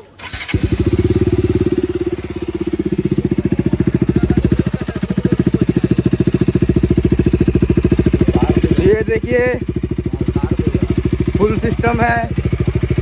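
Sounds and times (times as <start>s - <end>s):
motorcycle engine starting and idling: 0.0s - 13.0s.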